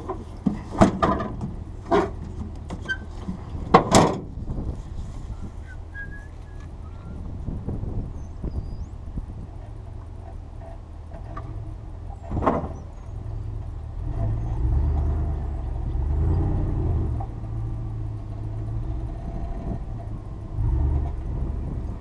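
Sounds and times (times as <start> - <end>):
vehicle engine rumbling under load: 0.0 - 22.0.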